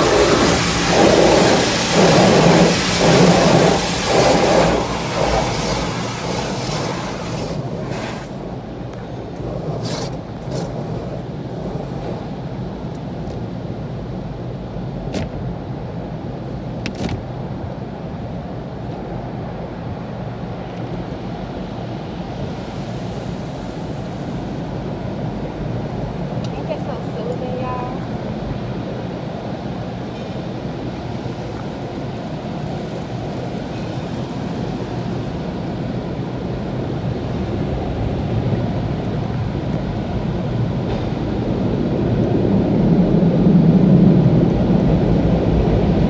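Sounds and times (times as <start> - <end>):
water spray hissing on car: 0.0 - 14.4, 20.6 - 46.0.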